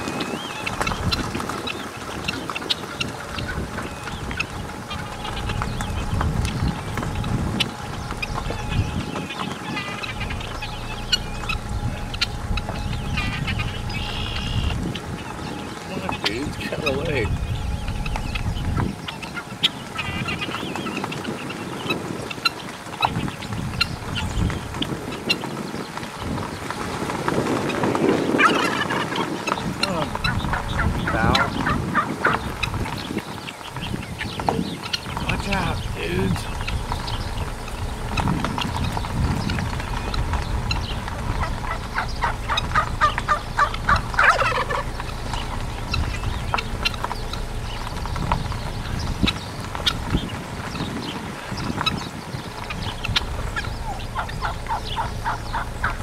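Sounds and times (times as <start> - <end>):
guineafowl harsh calls: 0.0 - 56.0.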